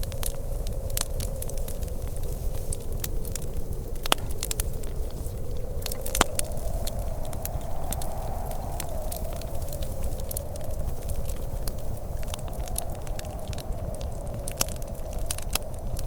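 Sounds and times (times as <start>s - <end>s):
fire popping: 0.0s - 16.0s
steady low rumble: 0.0s - 16.0s
wood fire crackling: 0.0s - 16.0s.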